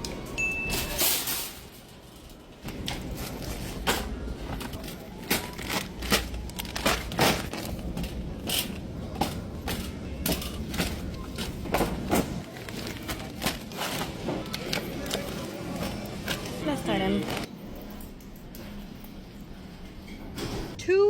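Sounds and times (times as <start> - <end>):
knocks clicks and rustles: 1.7 - 19.2.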